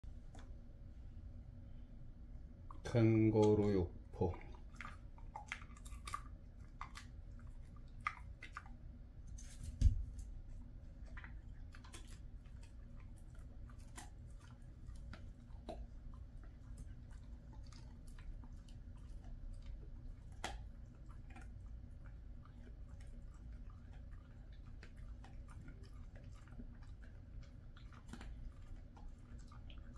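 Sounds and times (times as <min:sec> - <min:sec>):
dog chewing and licking: 0:02.4 - 0:29.9.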